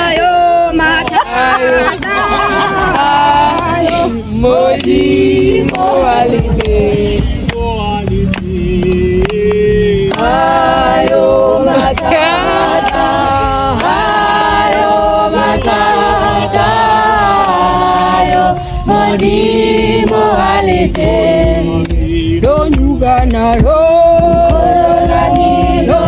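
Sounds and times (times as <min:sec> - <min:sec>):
voices singing in chorus: 0:00.0 - 0:26.0.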